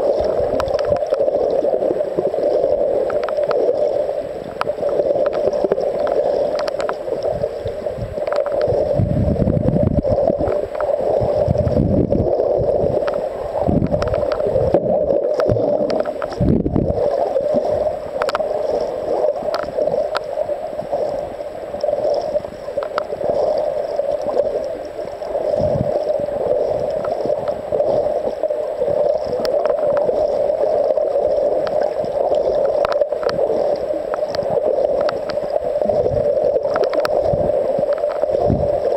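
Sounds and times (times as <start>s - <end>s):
faint clicks: 0.0s - 9.1s, 10.0s - 38.9s
gurgling water: 0.0s - 38.9s
low rumbles of water and handling: 0.0s - 38.9s
steady underwater hum: 0.0s - 38.9s.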